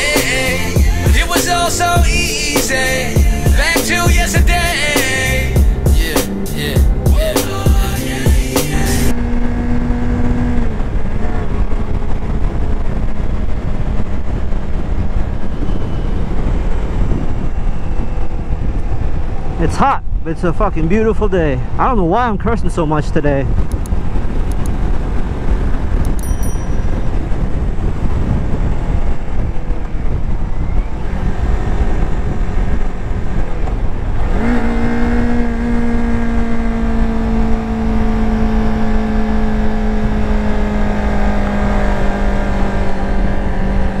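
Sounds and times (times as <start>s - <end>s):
motorcycle engine: 0.0s - 19.5s, 23.5s - 44.0s
wind rush: 8.0s - 44.0s.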